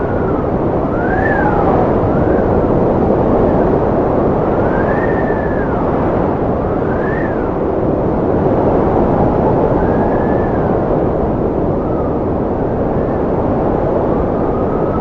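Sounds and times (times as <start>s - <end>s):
strong wind howling: 0.0s - 15.0s.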